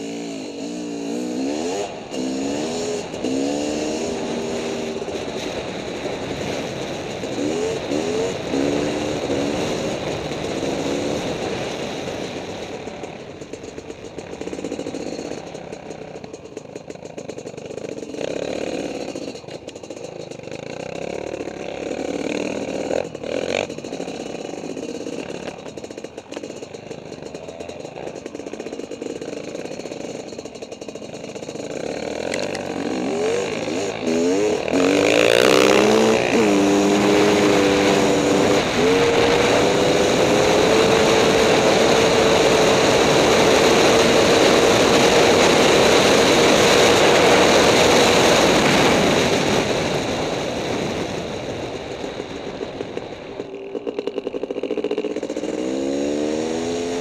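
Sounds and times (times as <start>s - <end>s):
motorcycle engine revving hard: 0.0s - 57.0s.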